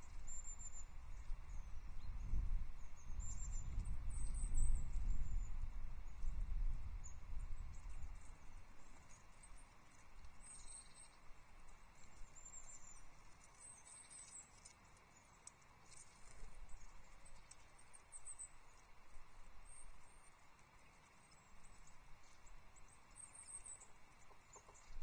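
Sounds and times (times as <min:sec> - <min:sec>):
small songbirds chirping: 0:00.0 - 0:25.0.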